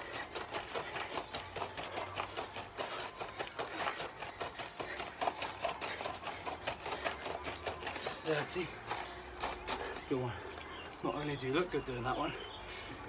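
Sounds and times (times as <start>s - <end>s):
footsteps on gravel: 0.0s - 12.5s.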